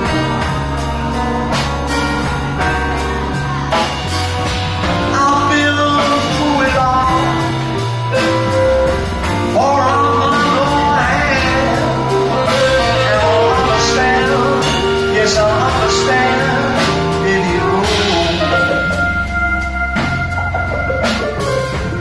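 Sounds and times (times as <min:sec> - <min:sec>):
jazz band playing slow ballad: 0:00.0 - 0:22.0
lead melody line: 0:00.0 - 0:22.0
low bass notes: 0:00.0 - 0:22.0
piano: 0:00.0 - 0:22.0.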